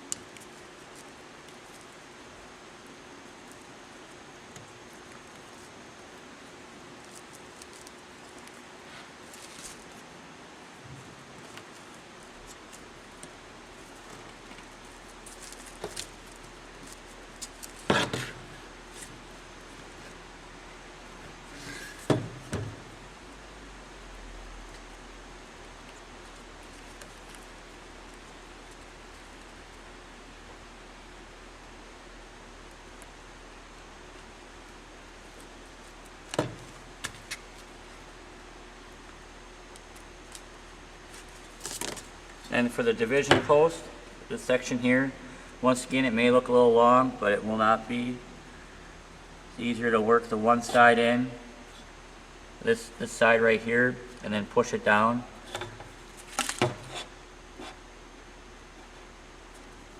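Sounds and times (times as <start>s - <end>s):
steady low hiss: 0.0s - 59.9s.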